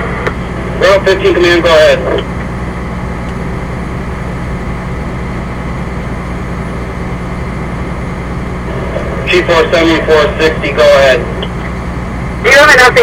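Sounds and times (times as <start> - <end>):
fire engine droning: 0.0 - 13.0.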